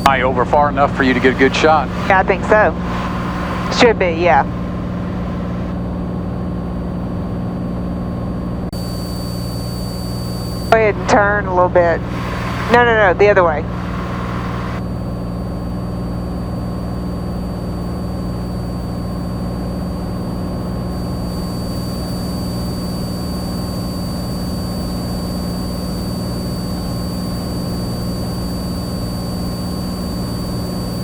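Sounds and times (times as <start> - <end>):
airplane engine and propeller droning: 0.0 - 31.0.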